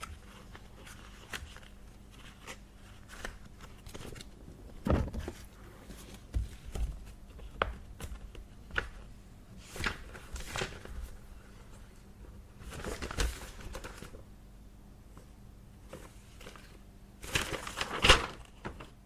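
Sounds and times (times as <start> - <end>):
paper rustling: 0.0 - 12.0, 12.6 - 14.2, 15.8 - 19.0.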